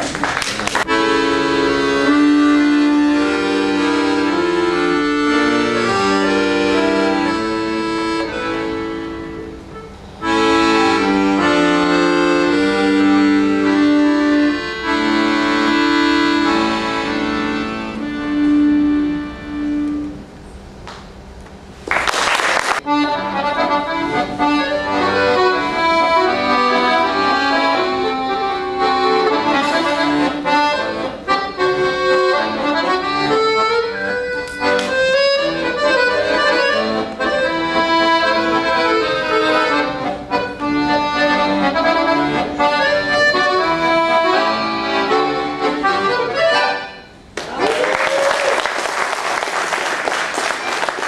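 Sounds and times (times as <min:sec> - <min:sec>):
piano accordion solo: 0:00.0 - 0:20.4, 0:22.6 - 0:47.3.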